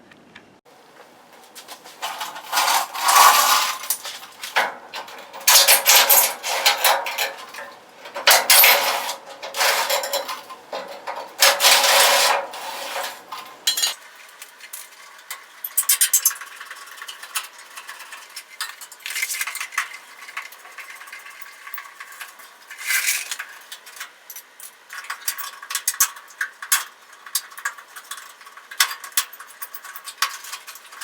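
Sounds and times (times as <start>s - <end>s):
small metal parts clinking: 1.0s - 31.0s.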